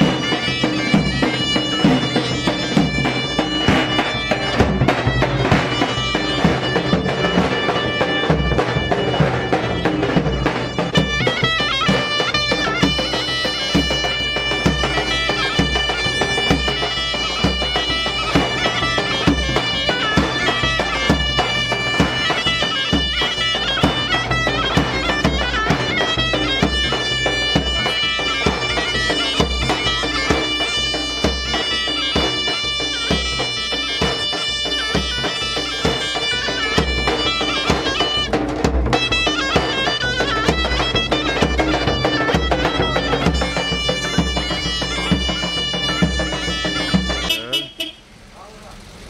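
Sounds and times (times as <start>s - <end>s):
large drum beating steady rhythm: 0.0s - 48.0s
loud reed pipe playing folk dance: 0.0s - 48.0s.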